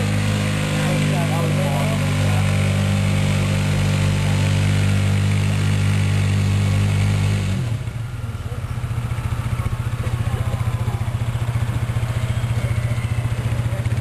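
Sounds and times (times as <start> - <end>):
vehicle engine running at high revs: 0.0 - 14.0.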